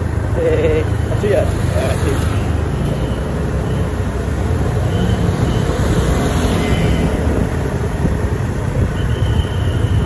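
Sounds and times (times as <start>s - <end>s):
rumble of road vehicles: 0.0s - 10.0s.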